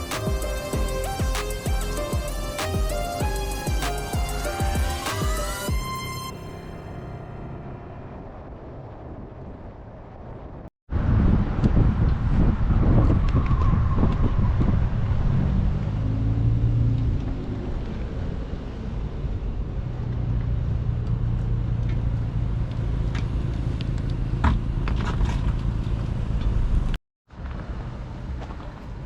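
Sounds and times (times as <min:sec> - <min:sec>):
road rumble: 0:00.0 - 0:29.0.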